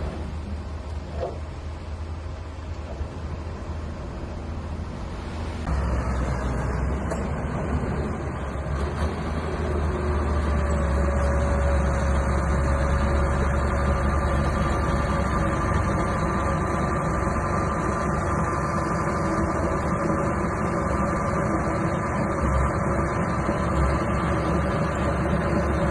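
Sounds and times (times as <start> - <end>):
bulldozer engine rumbling: 0.0 - 25.9.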